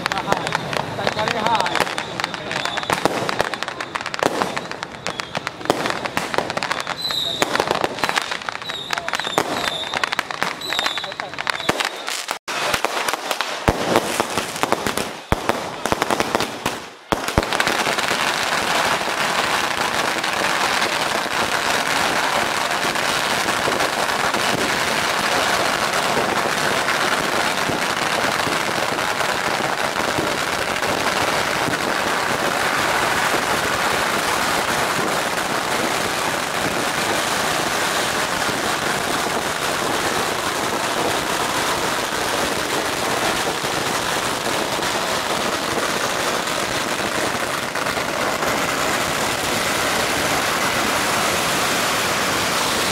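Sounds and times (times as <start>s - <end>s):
firecrackers crackling: 0.0s - 52.9s.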